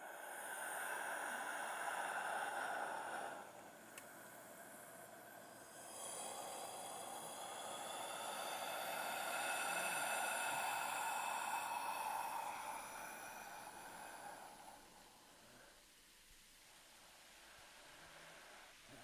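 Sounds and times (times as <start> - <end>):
long breathy hiss: 0.0 - 19.0.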